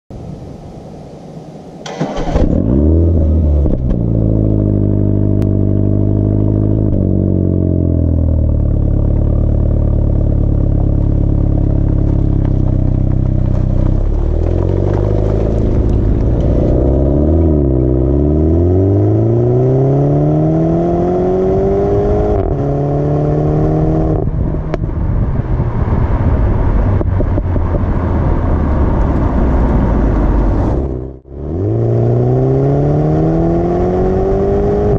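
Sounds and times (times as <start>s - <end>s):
tyre and road noise: 1.8s - 34.9s
car engine revving and idling: 1.9s - 34.9s.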